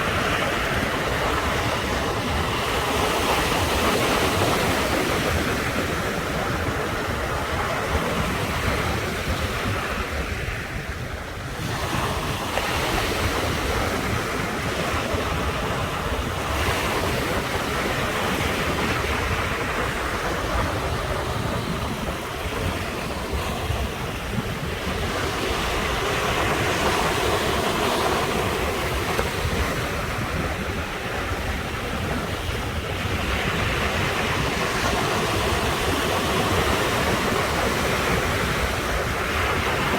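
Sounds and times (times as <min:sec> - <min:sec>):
ocean surf washing ashore: 0:00.0 - 0:39.9
wind buffeting microphone: 0:00.0 - 0:39.9.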